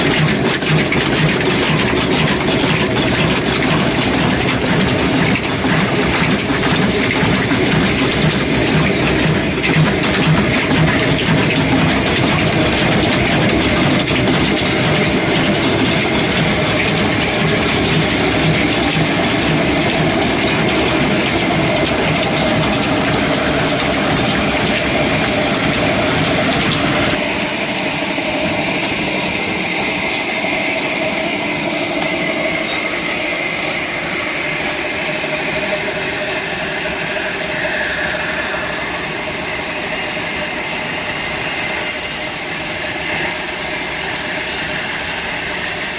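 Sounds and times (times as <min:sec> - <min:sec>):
stationary engine rumble: 0:00.0 - 0:45.9.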